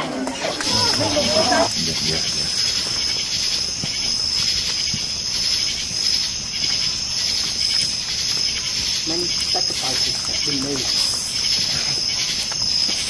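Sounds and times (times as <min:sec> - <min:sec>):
crickets chirping chorus: 0:00.0 - 0:13.0.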